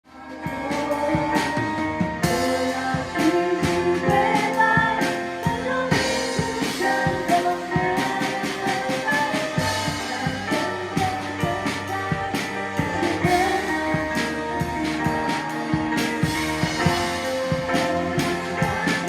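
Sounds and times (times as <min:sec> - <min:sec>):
person singing: 0:00.1 - 0:19.0
worship band music: 0:00.1 - 0:19.0.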